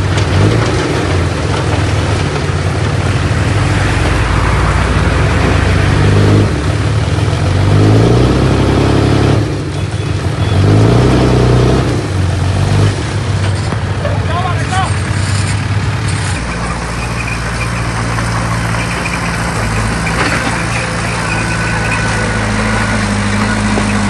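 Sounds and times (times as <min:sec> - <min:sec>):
heavy diesel engine revving: 0:00.0 - 0:24.0.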